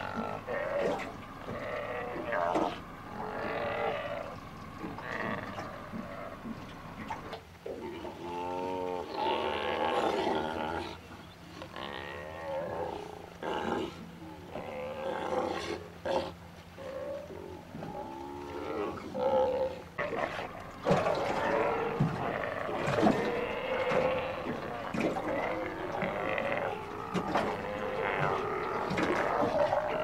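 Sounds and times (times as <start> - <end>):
sea lions roaring and growling: 0.0 - 30.0.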